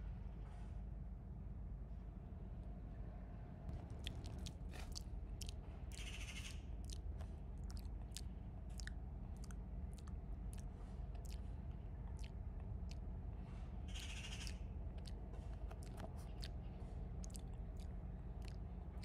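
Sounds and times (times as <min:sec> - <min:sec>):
low steady rumble: 0:00.0 - 0:19.0
cats chewing wet food: 0:03.7 - 0:19.0.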